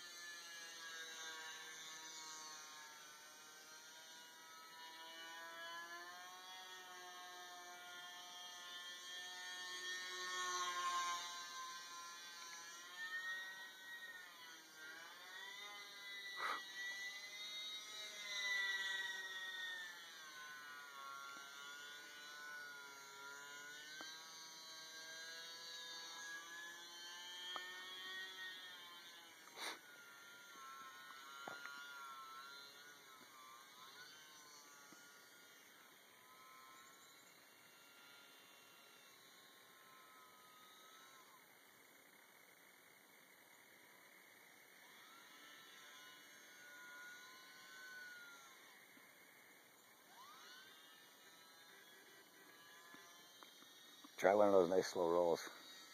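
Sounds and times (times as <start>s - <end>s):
model plane motor whining: 0.0s - 55.9s.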